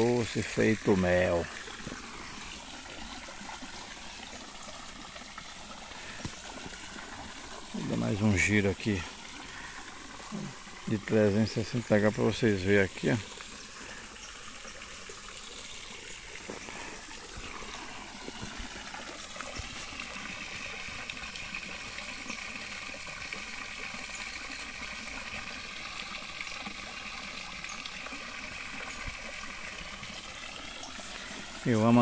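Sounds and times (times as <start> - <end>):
water splashing into pond: 0.0 - 32.0.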